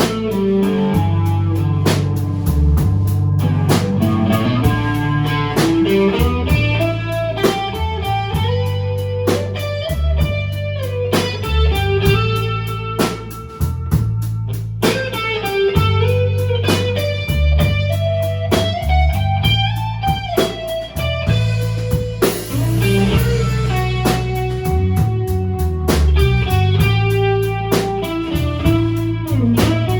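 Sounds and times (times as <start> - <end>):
blues band playing: 0.0 - 29.9
electric guitar lead notes: 0.0 - 29.9.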